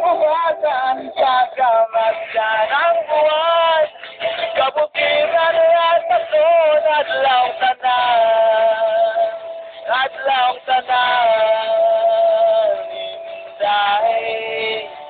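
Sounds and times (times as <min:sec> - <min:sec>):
person singing slow melody: 0:00.0 - 0:15.0.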